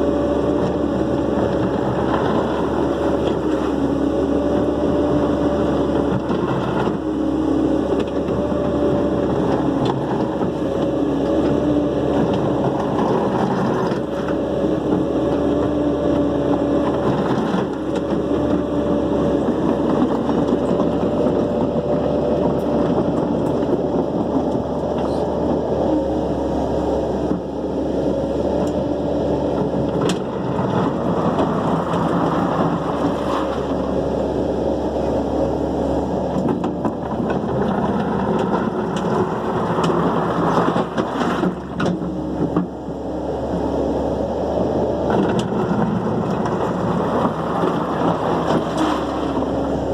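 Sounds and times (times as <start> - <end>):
dump truck engine running: 0.0 - 49.9.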